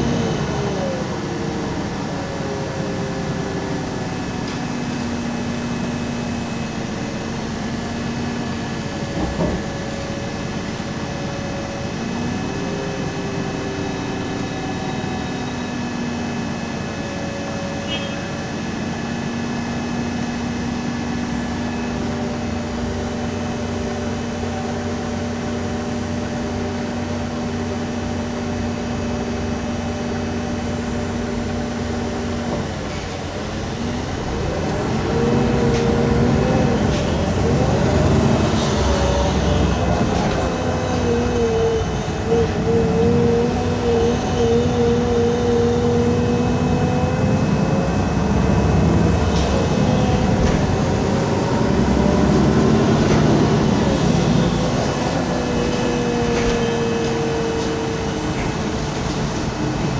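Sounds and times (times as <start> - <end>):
bus engine accelerating: 0.0 - 59.9
road rumble: 0.0 - 59.9.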